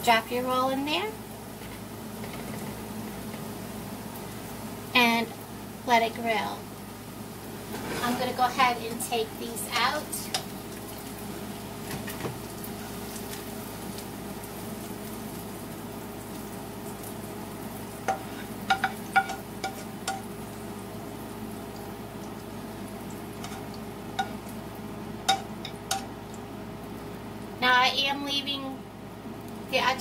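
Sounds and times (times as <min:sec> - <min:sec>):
butter sizzling in a frying pan: 0:00.0 - 0:27.6.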